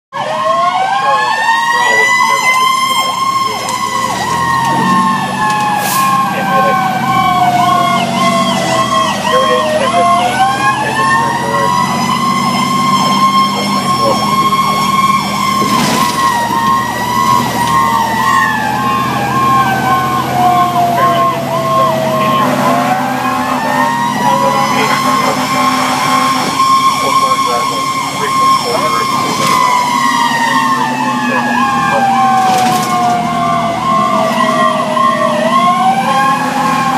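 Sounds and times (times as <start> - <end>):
wailing siren: 0.1 - 36.9
fast cycling siren: 0.2 - 36.9
truck engine running: 0.4 - 36.9.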